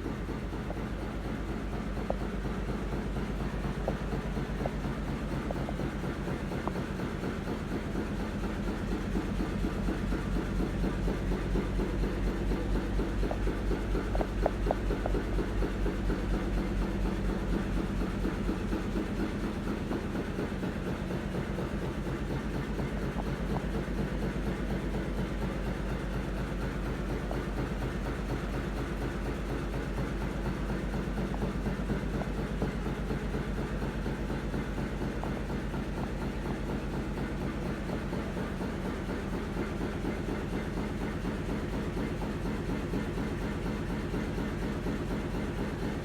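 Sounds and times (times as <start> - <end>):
stationary engine running: 0.0 - 46.0.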